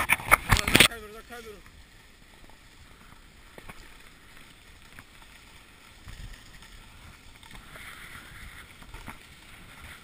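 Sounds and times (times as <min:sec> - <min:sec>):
faint clicks: 0:00.0 - 0:10.0.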